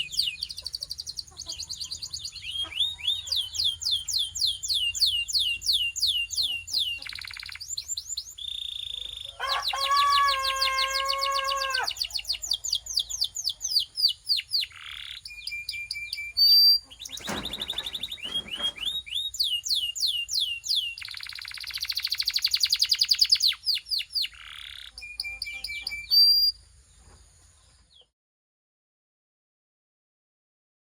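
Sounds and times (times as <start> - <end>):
canary singing trills: 0.0 - 26.6.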